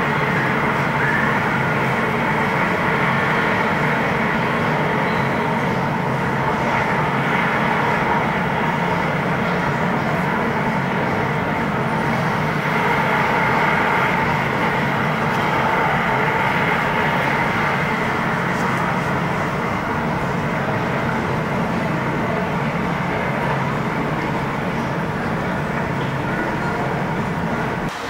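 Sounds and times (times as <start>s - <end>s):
faint hum: 0.0s - 28.0s.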